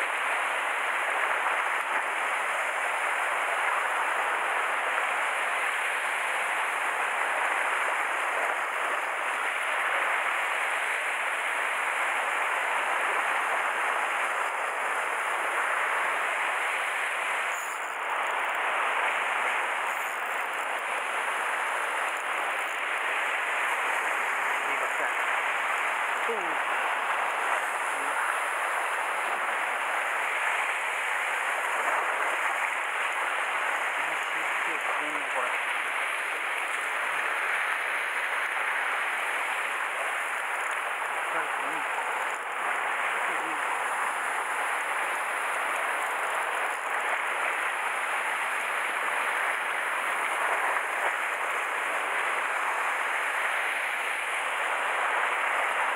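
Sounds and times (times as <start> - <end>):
sea swell washing over rocks: 0.0 - 55.9.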